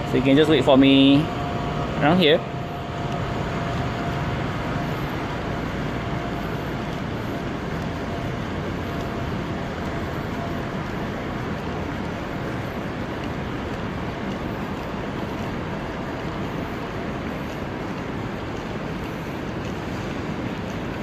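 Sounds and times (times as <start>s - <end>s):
city traffic roar: 0.0s - 21.0s.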